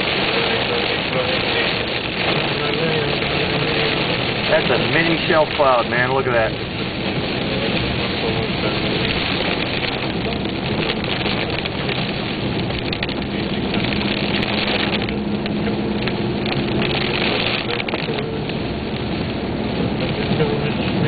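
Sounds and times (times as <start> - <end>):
car road and engine noise: 0.0 - 21.0
rain hissing on a car: 0.0 - 21.0.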